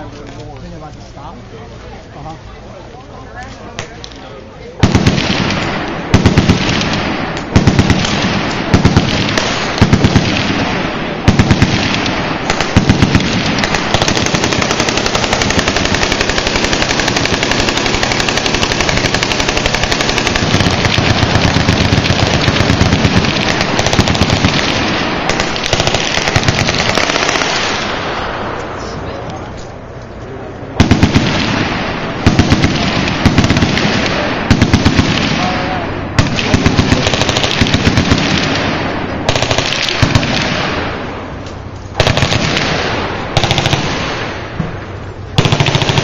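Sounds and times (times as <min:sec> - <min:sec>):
machine gun fire: 0:04.8 - 0:28.3, 0:30.8 - 0:41.3, 0:42.0 - 0:46.0.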